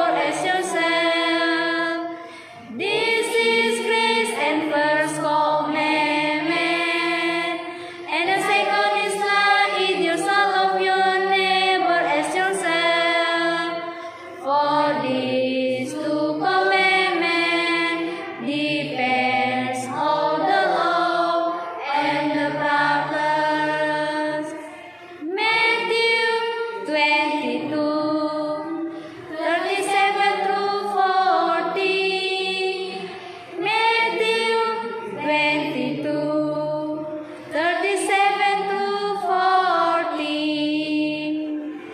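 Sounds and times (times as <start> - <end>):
group of teenagers singing: 0.0 - 41.9.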